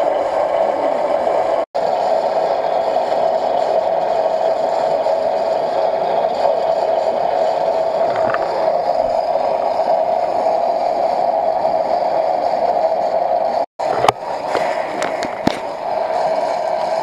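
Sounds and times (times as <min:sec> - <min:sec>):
mechanical winch drone: 0:00.0 - 0:17.0.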